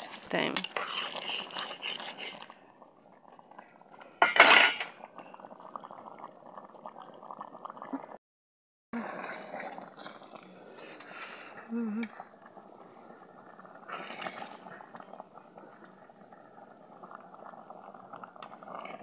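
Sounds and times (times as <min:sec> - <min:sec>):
stew bubbling at a boil: 0:00.0 - 0:08.2, 0:09.0 - 0:19.0.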